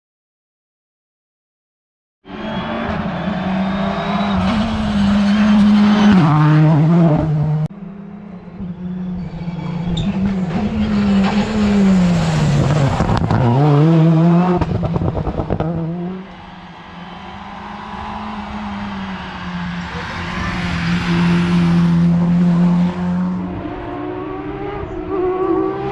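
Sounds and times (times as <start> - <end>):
rally car engine at full throttle: 2.2 - 25.9.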